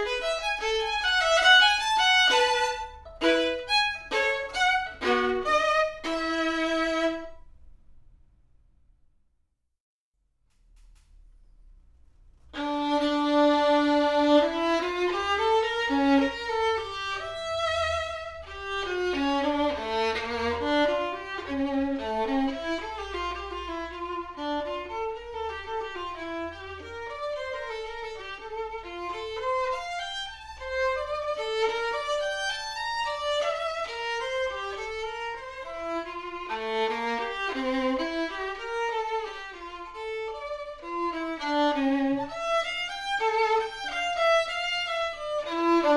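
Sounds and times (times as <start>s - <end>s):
solo violin melody: 0.0s - 7.6s, 12.5s - 45.9s.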